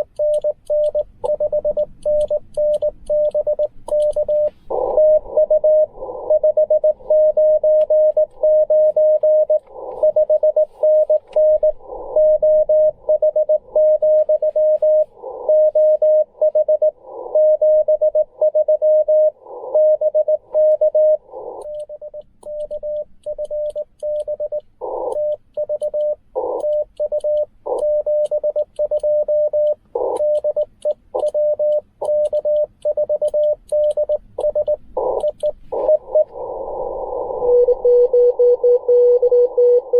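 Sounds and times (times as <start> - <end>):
morse code tones: 0.0 - 39.9.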